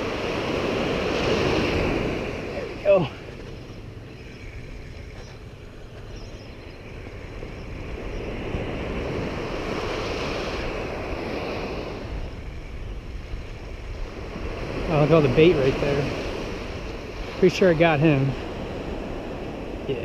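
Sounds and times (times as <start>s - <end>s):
ocean surf breaking: 0.0s - 20.0s
wind rumbling on microphone: 0.0s - 20.0s.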